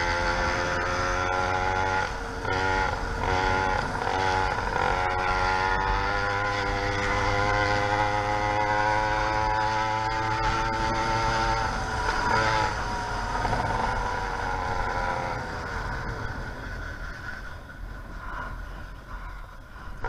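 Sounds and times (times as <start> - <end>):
two-stroke engine buzzing: 0.0 - 20.0.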